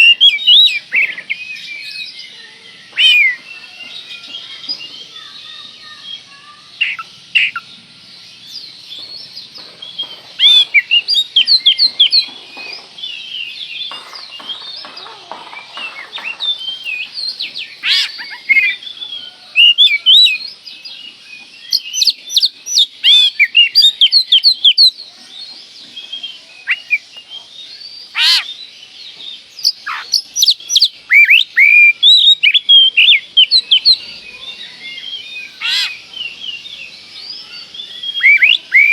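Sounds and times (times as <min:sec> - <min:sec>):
songbird chirping and whistling: 0:00.0 - 0:38.9.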